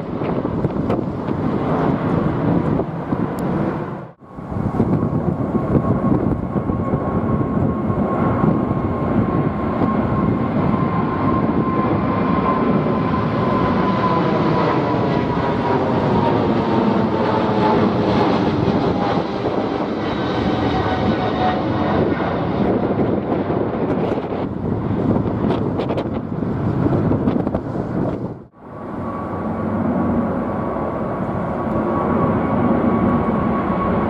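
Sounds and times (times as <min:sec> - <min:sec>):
falling turbofan whine: 0:00.0 - 0:34.0
jet airliner roaring at takeoff: 0:00.0 - 0:34.0.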